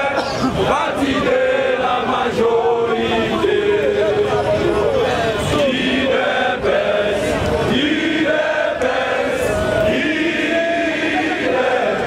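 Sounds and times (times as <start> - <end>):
crowd chanting and singing: 0.0 - 12.0.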